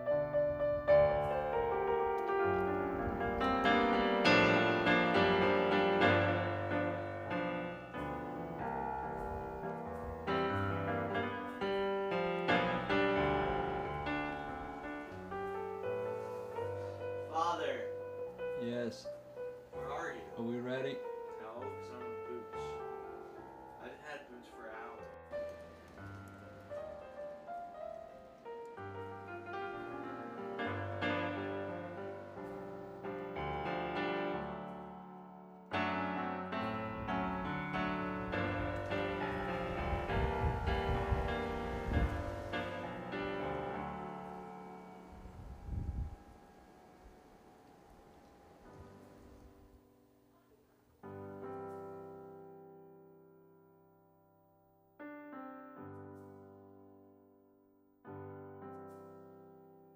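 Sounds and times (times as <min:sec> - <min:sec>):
solo piano: 0:00.0 - 0:59.9.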